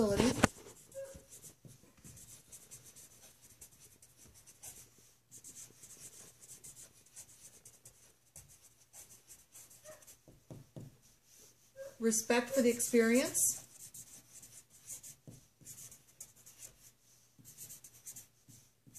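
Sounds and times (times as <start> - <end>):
pen scratching on paper: 0.0 - 18.9.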